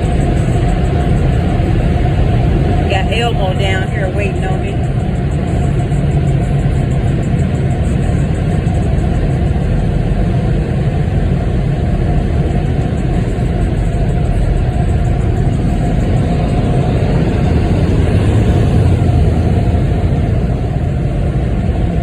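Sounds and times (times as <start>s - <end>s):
low rumble inside car wash: 0.0s - 22.0s.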